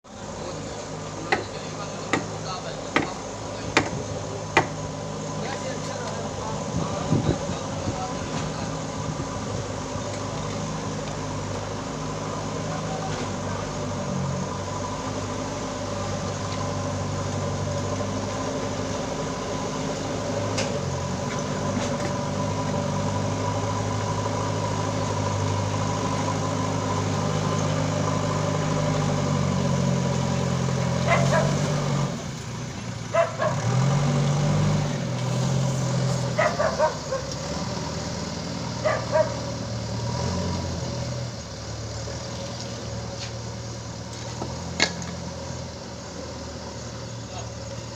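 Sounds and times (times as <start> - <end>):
diesel engine working: 0.0 - 47.9.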